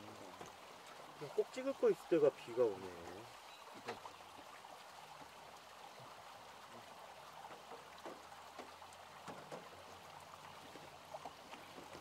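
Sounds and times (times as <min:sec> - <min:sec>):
light rain hiss: 0:00.0 - 0:12.0
water drips: 0:00.0 - 0:12.0.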